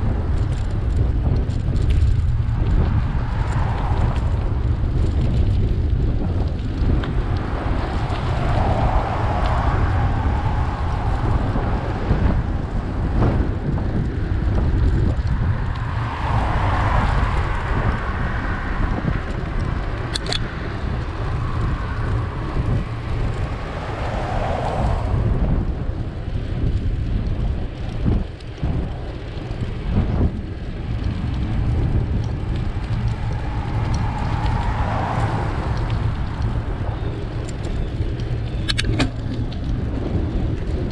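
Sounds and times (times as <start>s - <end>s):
cars passing: 0.0s - 27.2s, 29.1s - 40.8s
wind buffeting microphone: 0.0s - 40.9s.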